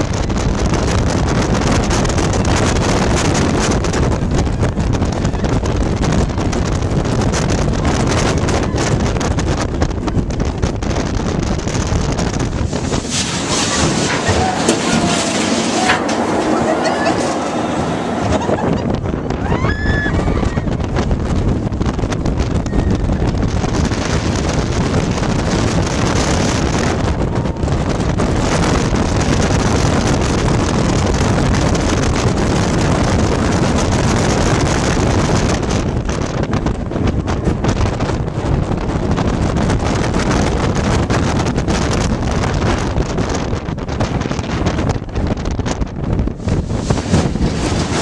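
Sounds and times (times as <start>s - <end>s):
roller coaster roaring on track: 0.0s - 48.0s
wind buffeting microphone: 0.0s - 48.0s.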